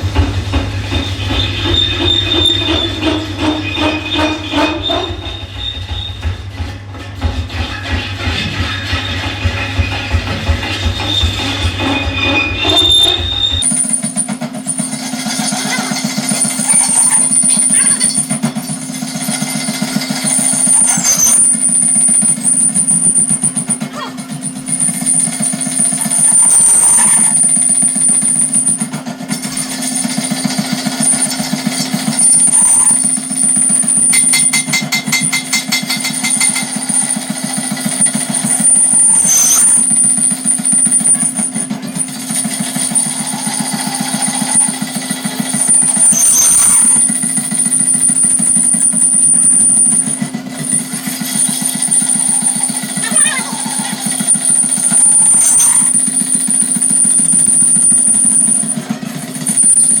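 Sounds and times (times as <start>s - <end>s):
high machine whine: 0.0s - 60.0s
workshop machinery rattling: 0.0s - 60.0s.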